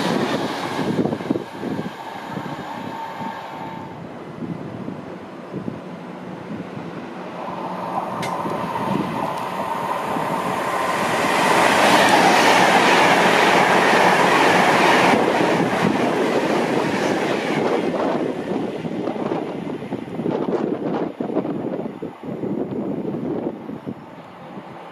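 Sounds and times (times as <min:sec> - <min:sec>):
train going by: 0:00.0 - 0:24.9.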